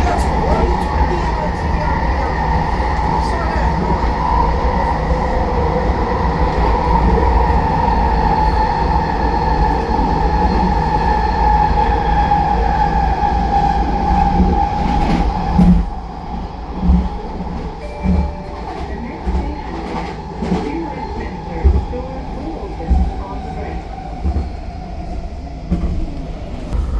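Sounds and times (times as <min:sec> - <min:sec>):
train car high whine: 0:00.0 - 0:26.9.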